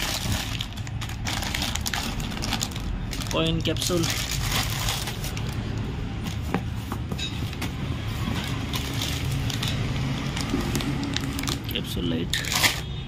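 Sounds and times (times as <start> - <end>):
plastic packets crinkling: 0.0 - 5.9, 8.2 - 12.9.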